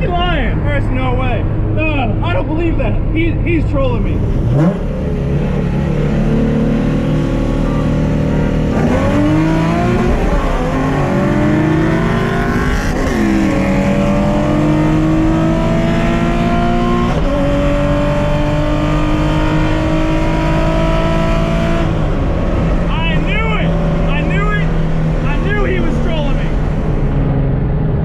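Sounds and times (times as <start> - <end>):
car engine accelerating through gears: 4.2 - 28.0.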